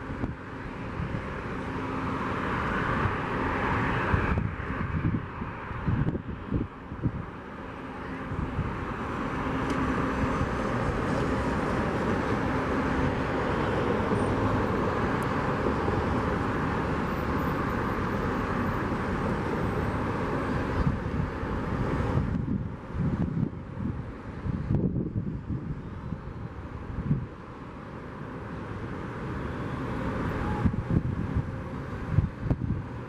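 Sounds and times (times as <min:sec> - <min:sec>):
jet airliner engines passing: 0:00.0 - 0:33.0.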